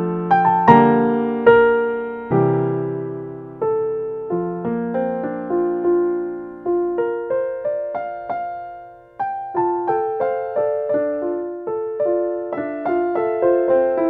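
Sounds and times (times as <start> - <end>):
solo piano melody: 0.0 - 14.0.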